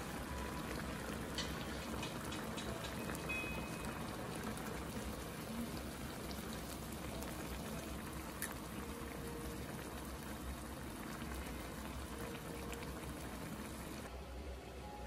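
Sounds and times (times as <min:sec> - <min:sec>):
stew bubbling and popping: 0:00.6 - 0:14.1.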